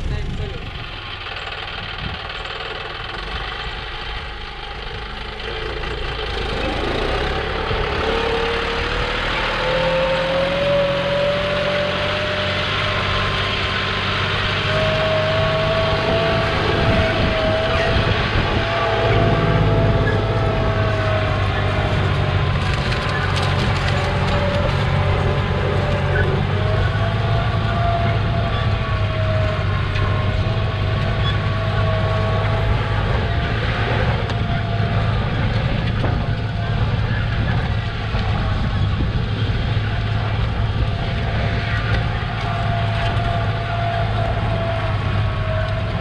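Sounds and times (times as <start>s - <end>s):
rising engine whine: 0.0s - 46.0s
tractor engine speeding up: 0.0s - 46.0s.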